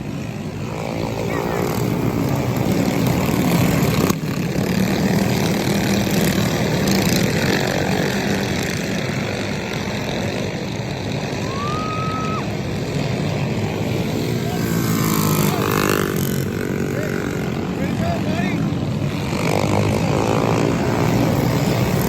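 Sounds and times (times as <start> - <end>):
mini bike engines running hard: 0.0 - 22.0.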